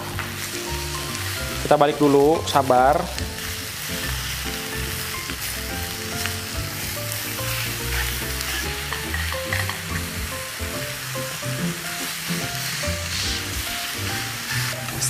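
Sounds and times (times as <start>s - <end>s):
prawns sizzling in a pan: 0.0s - 15.0s.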